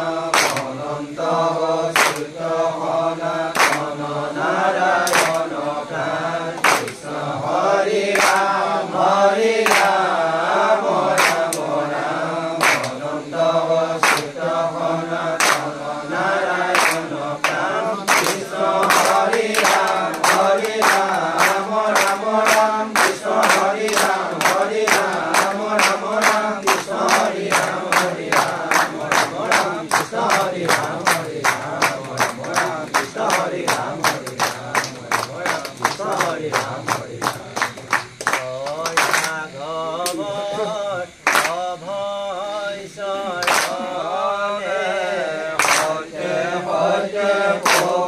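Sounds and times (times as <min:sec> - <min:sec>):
group chanting in unison: 0:00.0 - 0:48.0.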